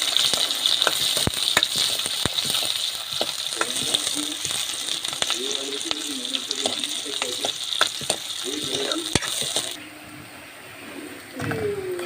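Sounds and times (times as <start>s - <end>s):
food sizzling in a pan: 0.0s - 9.9s.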